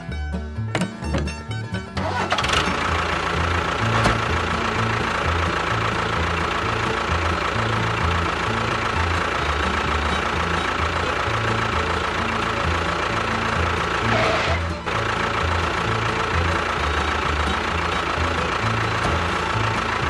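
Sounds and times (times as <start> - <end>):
background music with bass line: 0.0 - 20.0
engine running with high whine: 0.7 - 20.0.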